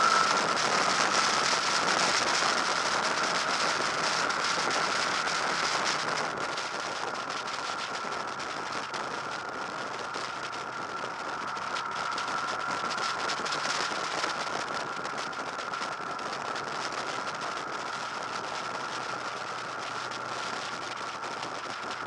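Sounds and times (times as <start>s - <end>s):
motorcycle engine running: 0.0s - 22.0s
steady high whine: 0.0s - 22.0s.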